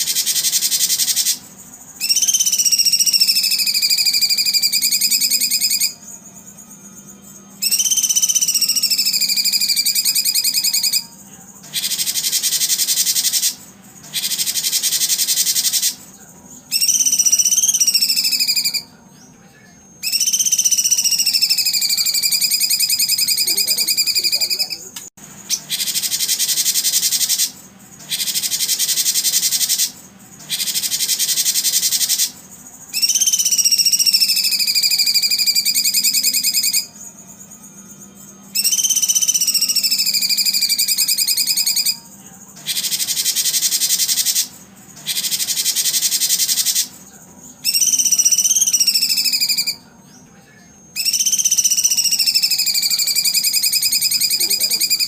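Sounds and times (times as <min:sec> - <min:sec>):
recorded birdsong calls: 0:00.0 - 0:37.5, 0:38.4 - 0:55.0.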